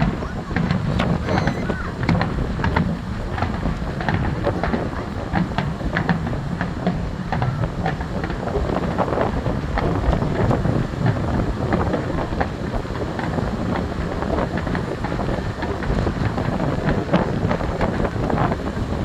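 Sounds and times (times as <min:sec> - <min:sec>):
fireworks bangs and crackles: 0:00.0 - 0:19.0
wind buffeting microphone: 0:00.0 - 0:19.0.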